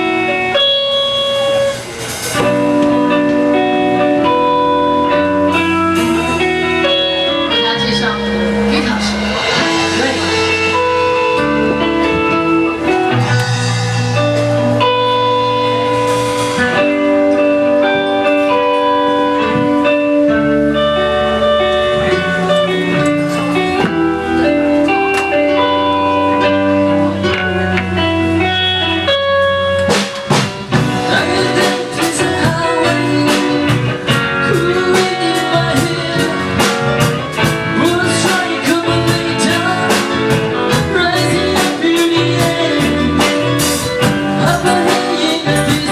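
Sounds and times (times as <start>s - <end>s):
band playing blues: 0.0s - 45.9s
drum kit steady beat: 0.0s - 45.9s
held guitar notes: 0.0s - 45.9s.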